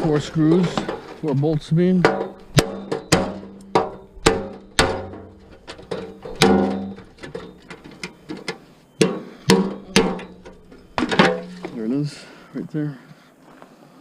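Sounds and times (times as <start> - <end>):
metal clanking: 0.0 - 12.0.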